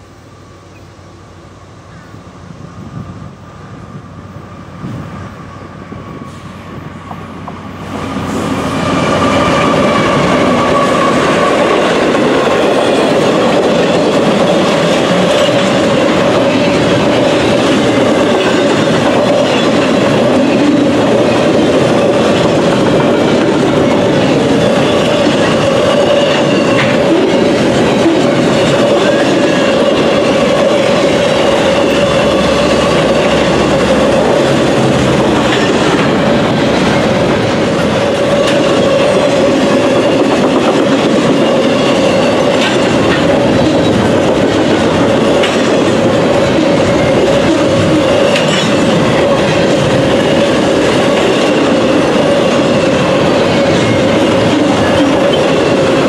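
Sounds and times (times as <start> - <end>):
freight train passing: 0.0 - 56.0.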